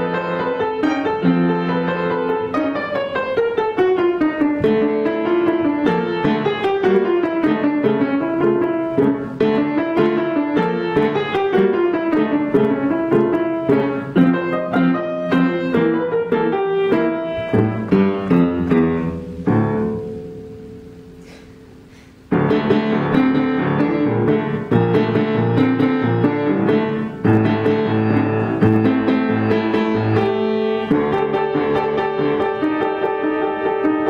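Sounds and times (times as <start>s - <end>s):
acoustic piano playing chords: 0.0s - 34.0s.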